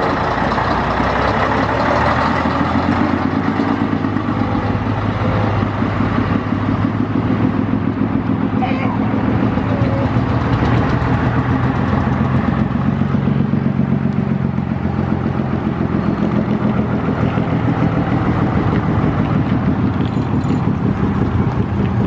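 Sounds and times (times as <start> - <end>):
vehicle engines driving past: 0.0 - 22.0.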